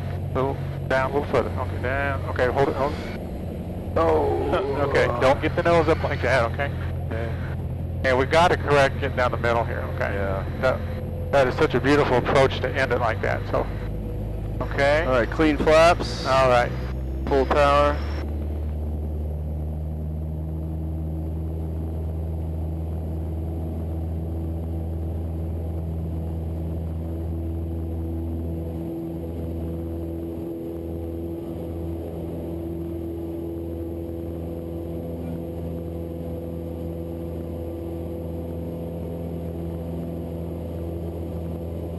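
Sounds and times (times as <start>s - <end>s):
propeller plane engine drone: 0.0s - 41.9s.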